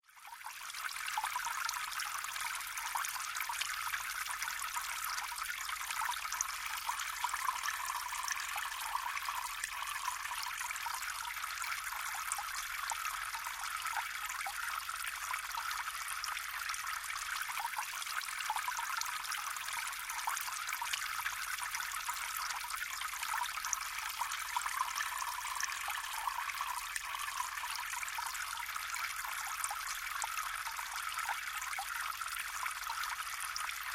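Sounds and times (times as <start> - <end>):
water trickling and gurgling: 0.0 - 33.9.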